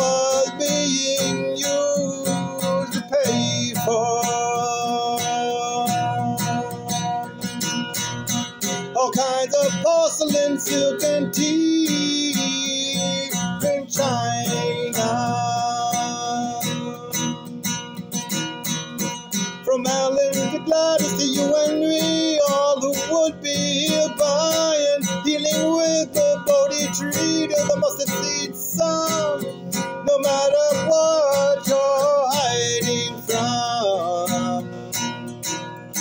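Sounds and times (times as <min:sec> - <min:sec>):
person singing without words: 0:00.0 - 0:17.7, 0:19.6 - 0:36.0
acoustic guitar strumming: 0:00.0 - 0:36.0.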